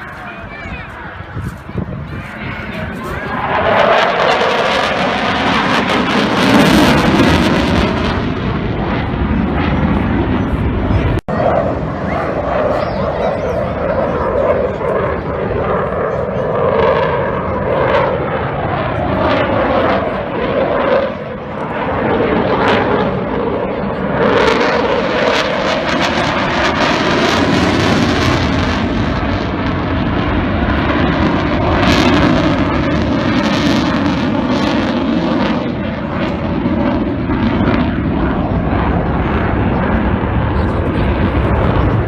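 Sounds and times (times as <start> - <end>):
jet fighter roaring: 0.0 - 42.0.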